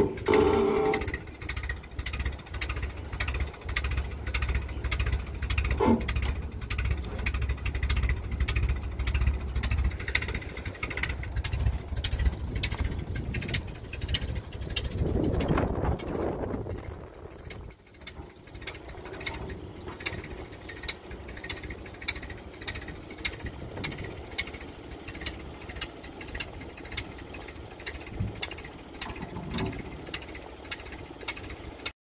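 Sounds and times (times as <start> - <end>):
light regular ticking: 0.0 - 32.0
tractor engine running: 0.0 - 32.0.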